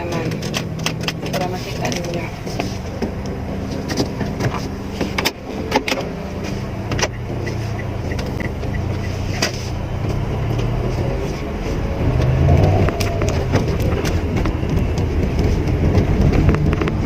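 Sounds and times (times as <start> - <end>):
car engine humming: 0.0 - 17.0
road noise: 0.0 - 17.0.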